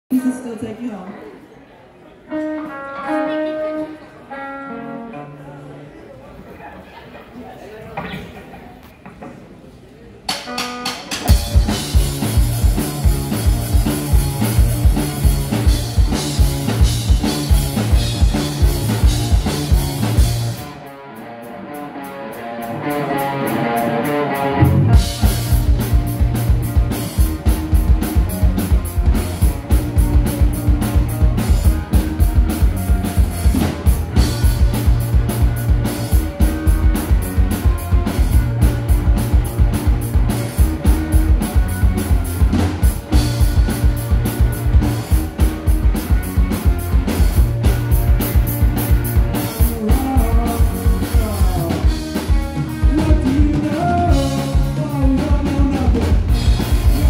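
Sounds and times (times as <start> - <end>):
electric guitars: 2.3 - 5.8, 10.3 - 57.0
drum kit beat: 10.3 - 20.8, 21.8 - 57.0
bass guitar: 10.3 - 57.0.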